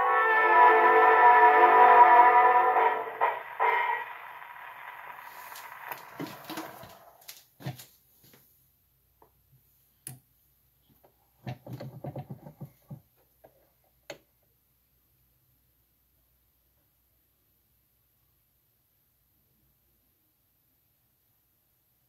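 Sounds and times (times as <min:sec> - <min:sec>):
record surface hiss: 0:00.0 - 0:22.0.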